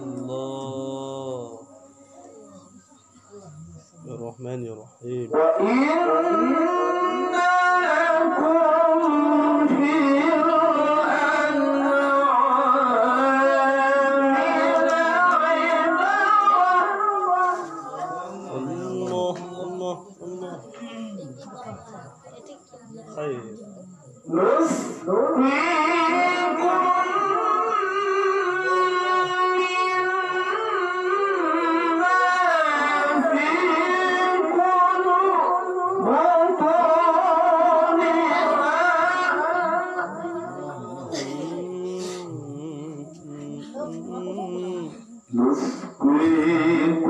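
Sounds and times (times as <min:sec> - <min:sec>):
man reciting melodically: 0:00.0 - 0:02.0, 0:04.0 - 0:20.9, 0:24.3 - 0:47.0.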